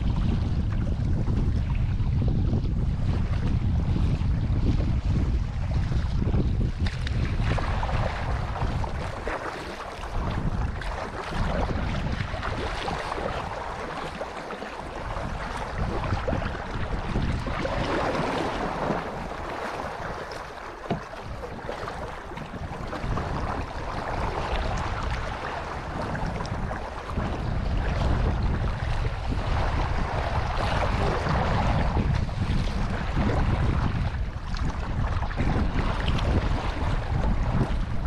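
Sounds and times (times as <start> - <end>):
water rushing along kayak hull: 0.0 - 38.0
wind buffeting microphone: 0.0 - 38.0.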